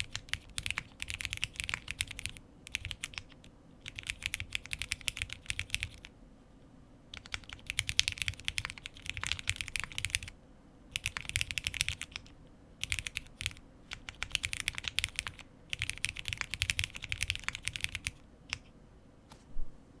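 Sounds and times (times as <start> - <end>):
mechanical keyboard typing: 0.0 - 6.1, 7.1 - 10.3, 10.9 - 18.7.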